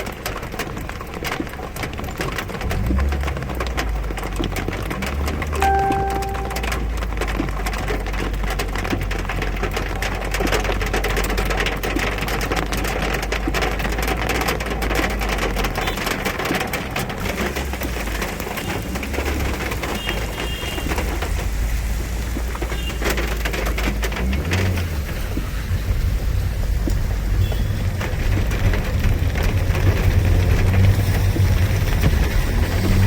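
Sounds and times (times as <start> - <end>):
heavy rain pattering on hard surface: 0.0 - 33.0.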